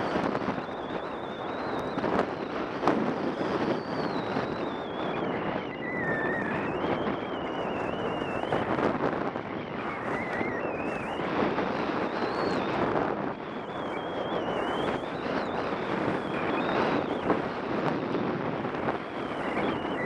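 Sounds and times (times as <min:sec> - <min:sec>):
thin wavering whistle: 0:00.0 - 0:20.0
wind rushing over microphone: 0:00.0 - 0:20.0.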